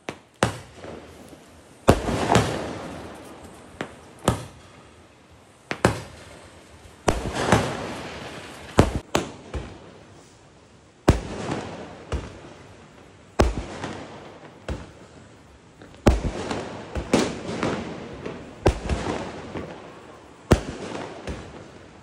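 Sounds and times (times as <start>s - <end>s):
fireworks bangs: 0.0s - 5.0s, 5.6s - 10.2s, 11.0s - 15.2s, 15.8s - 22.0s.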